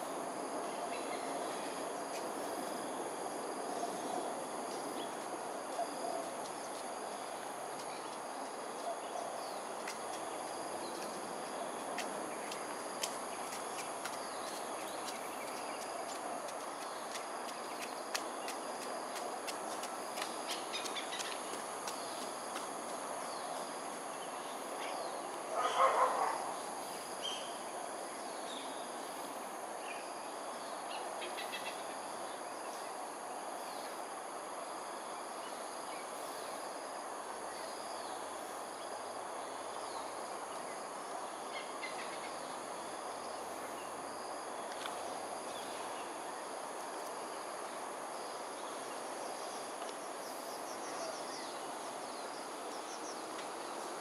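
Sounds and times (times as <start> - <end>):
insect chorus: 0.0 - 54.0
outdoor background noise: 0.0 - 54.0.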